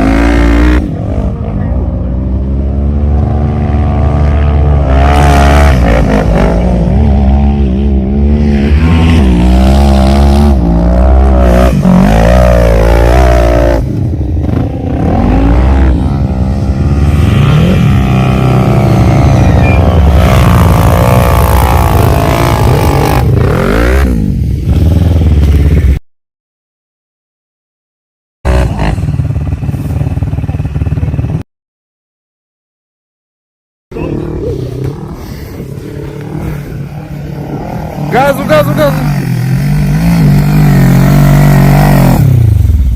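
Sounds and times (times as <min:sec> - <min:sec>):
quad bike engine revving: 0:00.0 - 0:25.9, 0:28.5 - 0:31.4, 0:34.0 - 0:42.9.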